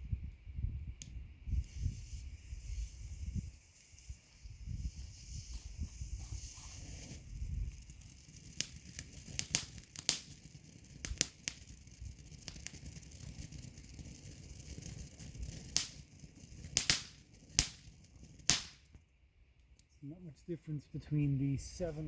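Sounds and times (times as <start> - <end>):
firework sharp cracks: 1.0 - 19.0.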